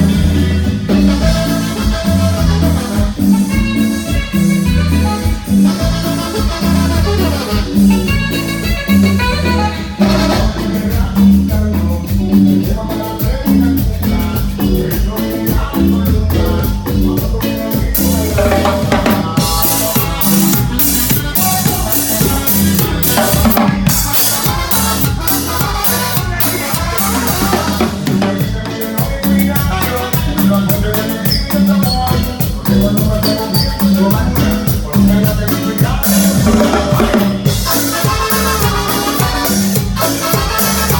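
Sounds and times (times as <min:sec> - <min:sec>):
latin dance band music: 0:00.0 - 0:40.9.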